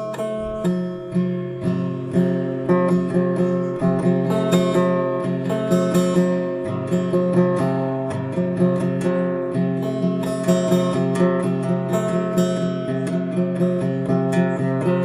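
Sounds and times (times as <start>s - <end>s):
solo guitar playing: 0.0s - 15.0s.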